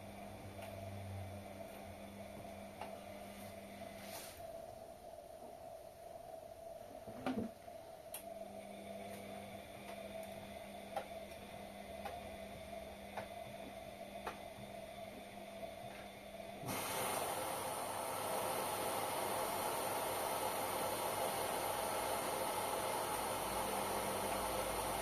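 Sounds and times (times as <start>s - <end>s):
washing machine electrical hum: 0.0s - 25.0s.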